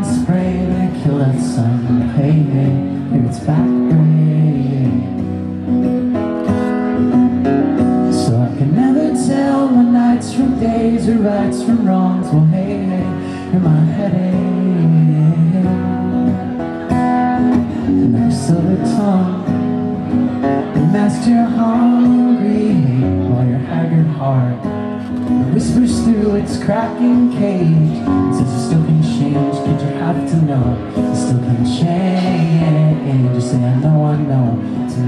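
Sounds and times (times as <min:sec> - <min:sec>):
man singing: 0:00.0 - 0:05.8, 0:07.8 - 0:35.0
strummed acoustic guitar: 0:00.0 - 0:35.0.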